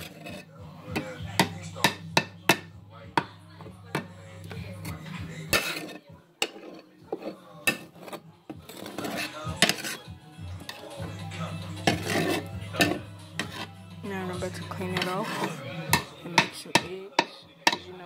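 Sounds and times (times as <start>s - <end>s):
utensil scraping a skillet: 0.0s - 3.3s, 3.9s - 18.0s.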